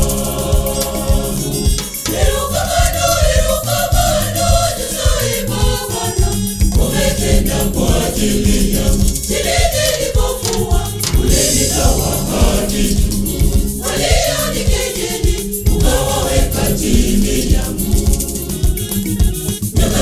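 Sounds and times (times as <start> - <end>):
choir singing gospel: 0.0 - 20.0
instrumental backing with beat: 0.0 - 20.0.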